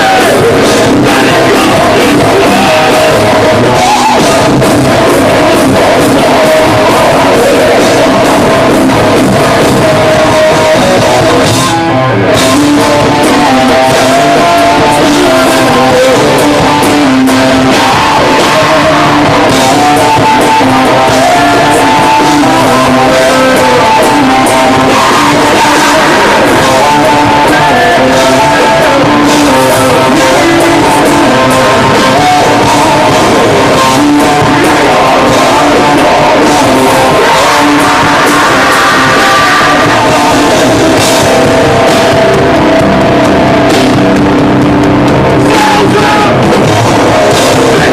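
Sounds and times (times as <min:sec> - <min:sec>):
drum kit: 0:00.0 - 0:47.9
electric guitars: 0:00.0 - 0:47.9
vocals: 0:00.0 - 0:47.9.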